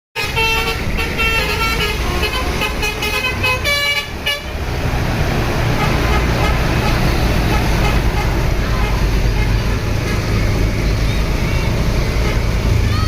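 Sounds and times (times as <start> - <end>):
engine and traffic rumble: 0.2 - 13.0
multi-tone bus horn melody: 0.2 - 13.0.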